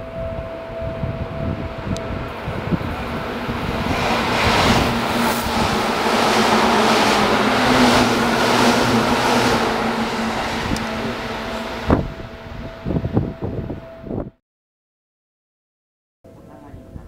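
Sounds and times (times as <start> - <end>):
electric train passing at speed: 0.0 - 14.4.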